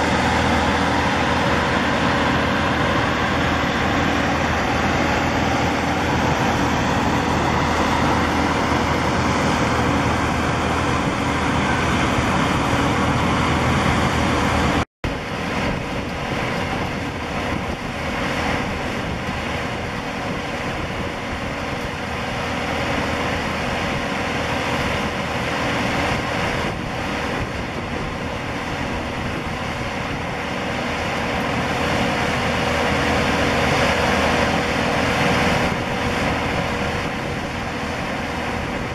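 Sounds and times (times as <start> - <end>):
jet engines rushing with whine: 0.0 - 38.9
jumbo jet engines on approach: 0.0 - 38.9.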